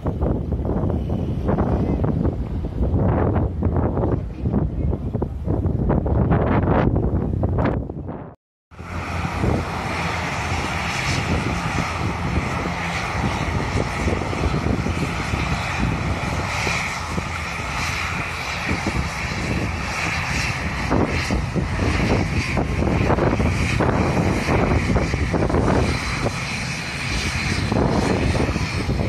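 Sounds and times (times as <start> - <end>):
jet engines whining: 0.0 - 29.0
wind buffeting microphone: 0.0 - 29.0.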